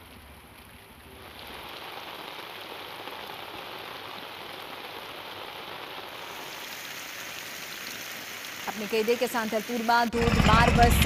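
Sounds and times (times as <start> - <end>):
heavy rain on water: 0.0 - 11.0.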